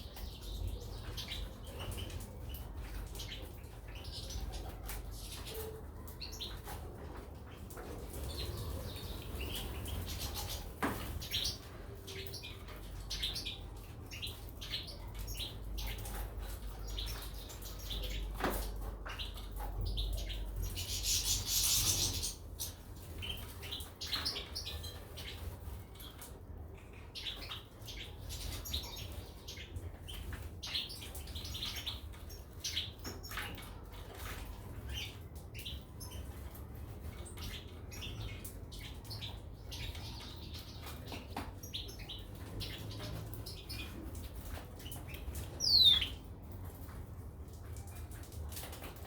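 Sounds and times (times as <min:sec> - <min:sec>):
caged birds chirping: 0:00.0 - 0:49.0.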